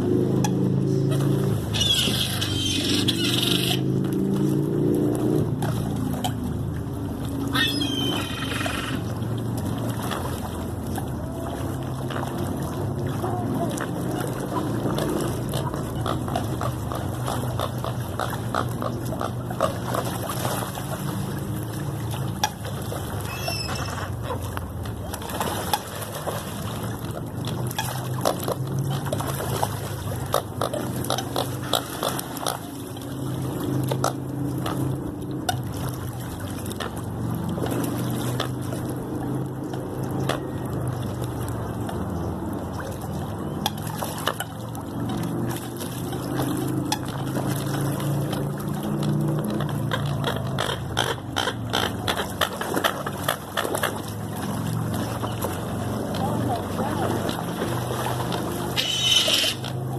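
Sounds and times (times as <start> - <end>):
birds splashing in water: 0.0 - 59.9.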